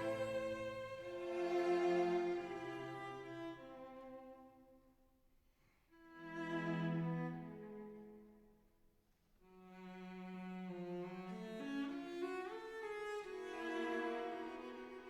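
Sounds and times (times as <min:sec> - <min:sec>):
bowed strings music: 0:00.0 - 0:04.5, 0:06.0 - 0:08.3, 0:09.6 - 0:15.0.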